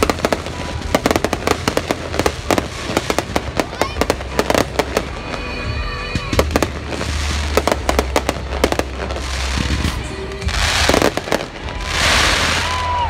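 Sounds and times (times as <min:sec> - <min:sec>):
crackling firework hiss: 0:00.0 - 0:13.0.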